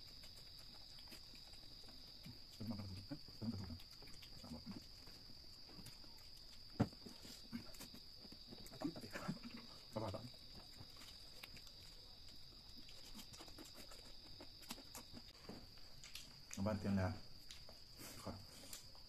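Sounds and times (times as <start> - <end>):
soft chewing and mouth sounds: 0.0 - 19.0.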